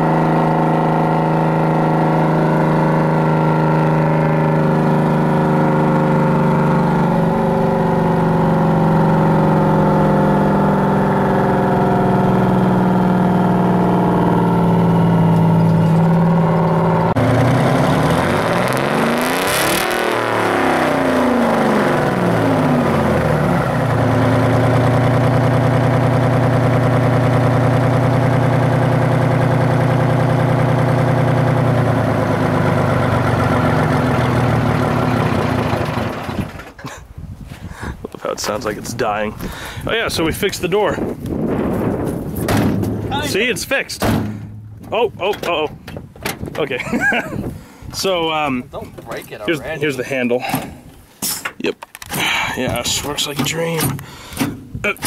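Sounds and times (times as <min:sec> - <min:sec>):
truck diesel engine running: 0:00.0 - 0:36.9, 0:39.4 - 0:50.9.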